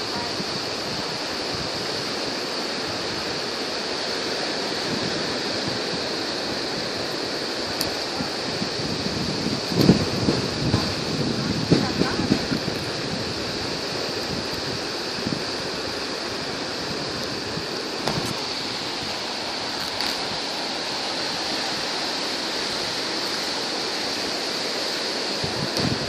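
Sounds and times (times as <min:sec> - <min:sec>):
steady high hiss: 0:00.0 - 0:26.0
surf on a sandy beach: 0:00.0 - 0:26.0.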